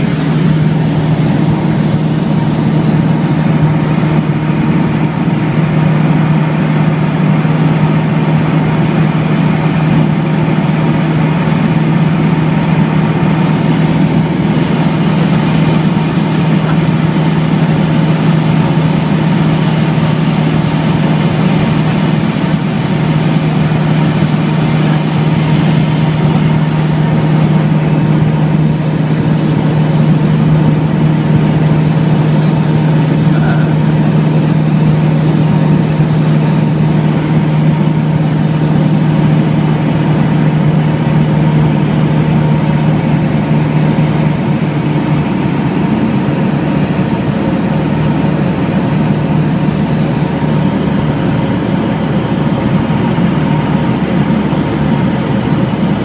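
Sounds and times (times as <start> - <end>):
light aircraft engine in flight: 0.0 - 56.0.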